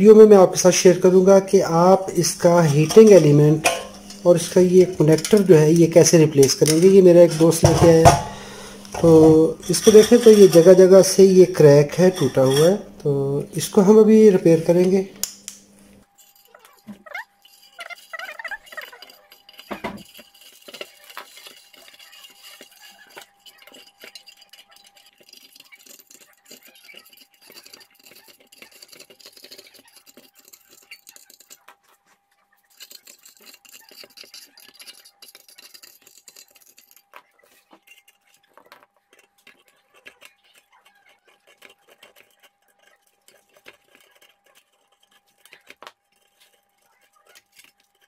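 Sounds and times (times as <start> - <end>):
metal wire scratching and clinking: 0.5 - 15.3, 16.0 - 32.0, 32.6 - 48.0.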